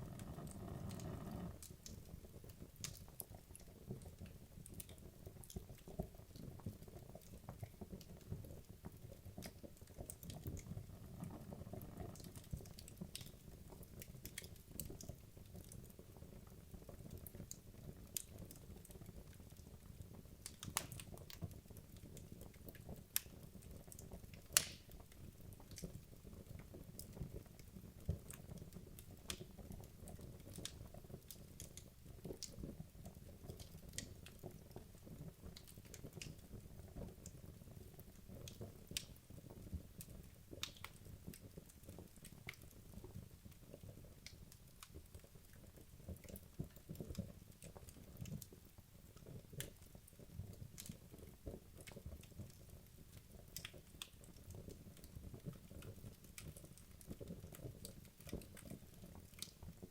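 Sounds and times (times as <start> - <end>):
wood logs crackling in a fireplace: 0.0 - 59.9.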